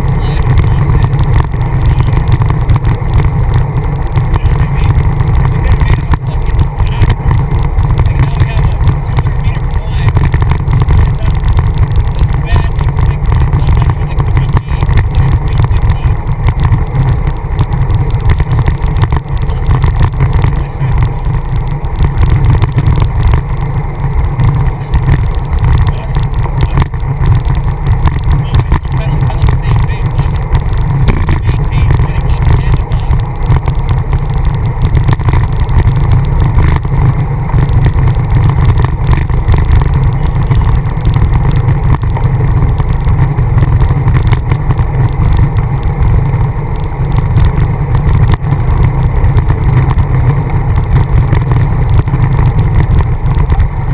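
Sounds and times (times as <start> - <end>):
road noise hiss: 0.0 - 53.9
wind buffeting microphone: 0.0 - 53.9.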